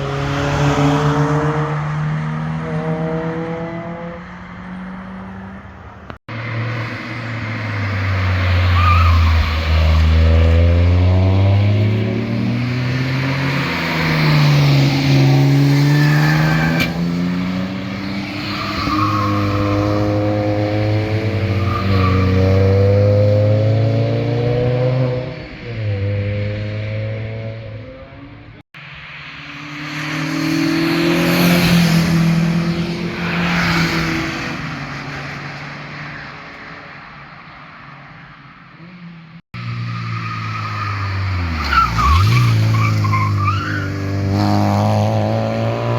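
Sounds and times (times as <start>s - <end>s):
cars revving past at speed: 0.0s - 5.8s, 6.4s - 28.4s, 29.5s - 35.9s, 39.6s - 45.9s.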